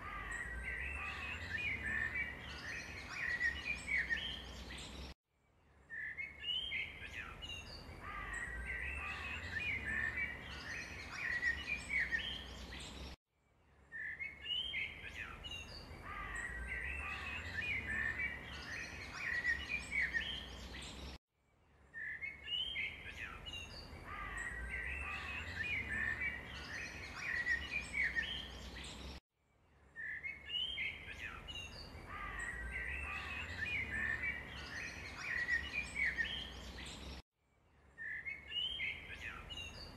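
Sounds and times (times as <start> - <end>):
small birds chirping: 0.0 - 5.2, 5.8 - 13.2, 13.8 - 21.2, 21.8 - 29.2, 29.9 - 37.2, 37.8 - 39.9.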